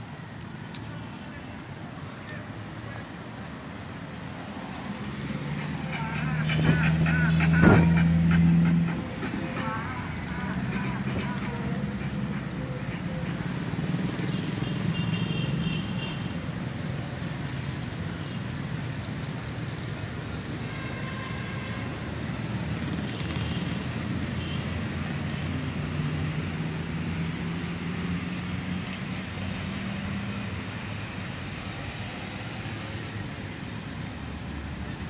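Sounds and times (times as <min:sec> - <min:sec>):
rush of passing vehicles: 0:00.0 - 0:35.0.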